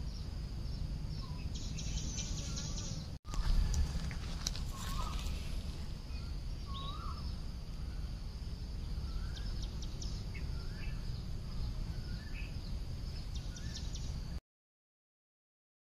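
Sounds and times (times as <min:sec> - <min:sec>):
bird chirping: 0:00.0 - 0:14.4
steady high hiss: 0:00.0 - 0:14.4.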